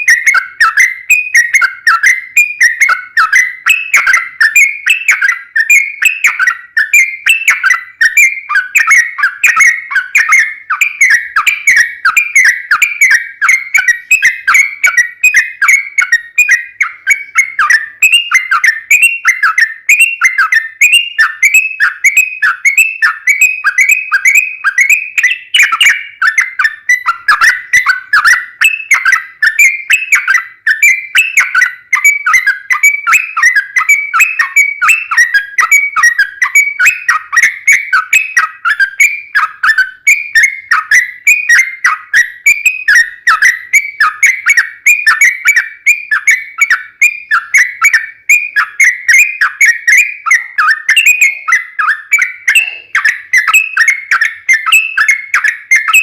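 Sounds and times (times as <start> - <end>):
bird singing bubbling whistles: 0.0 - 56.0.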